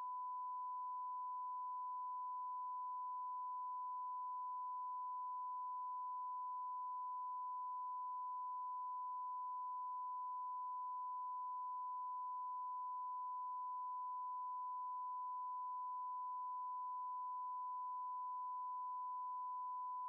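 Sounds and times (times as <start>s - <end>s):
electronic sine tone: 0.0s - 20.0s.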